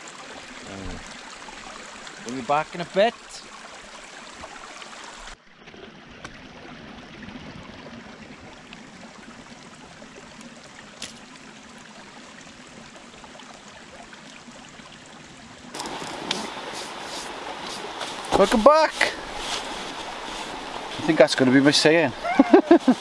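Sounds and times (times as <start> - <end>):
stream running: 0.0 - 23.0.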